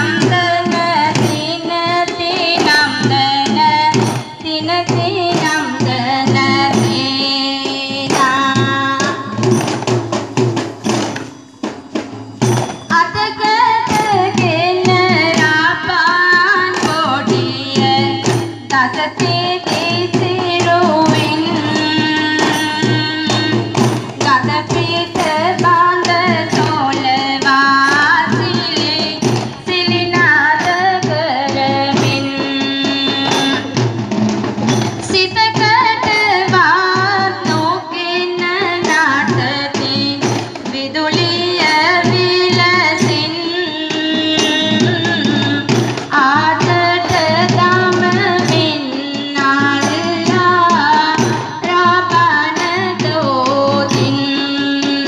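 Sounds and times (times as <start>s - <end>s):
hand-drum beat: 0.0s - 55.0s.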